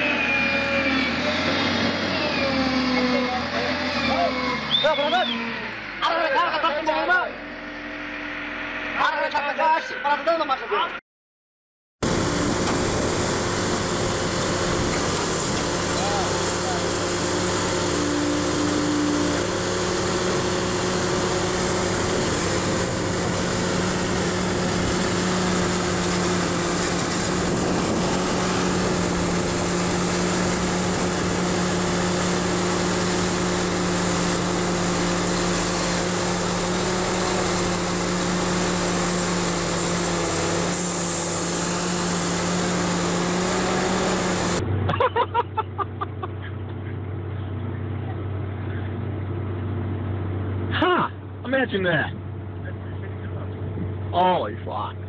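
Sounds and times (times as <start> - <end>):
excavator diesel engines running: 0.0 - 10.1, 12.0 - 55.0.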